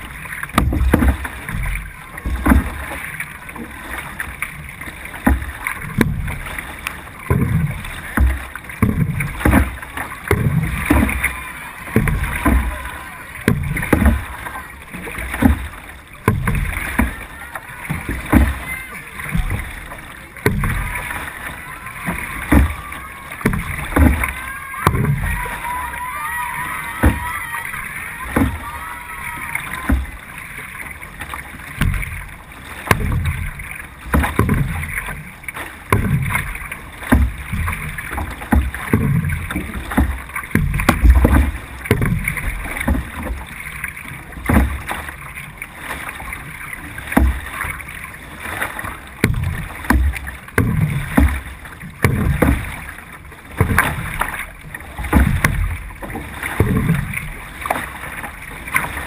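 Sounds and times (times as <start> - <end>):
paddle strokes surging water: 0.0 - 59.0
water washing along hull: 0.0 - 59.0.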